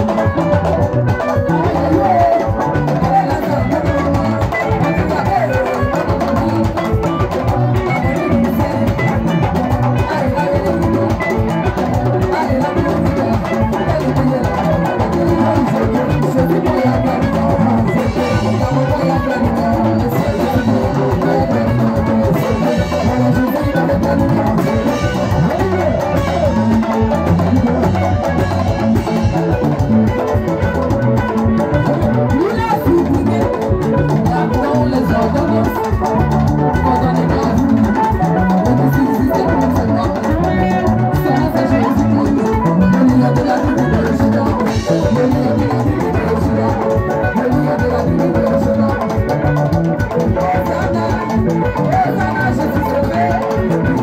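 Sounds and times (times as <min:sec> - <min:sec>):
live band dance music: 0:00.0 - 0:54.0.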